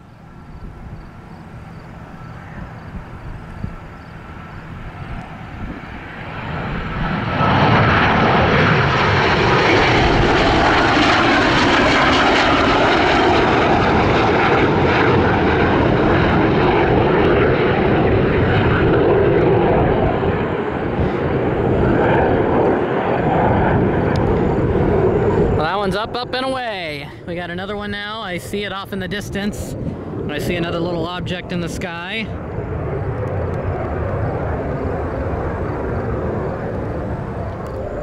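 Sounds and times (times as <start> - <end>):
jet engines passing: 0.0 - 38.0.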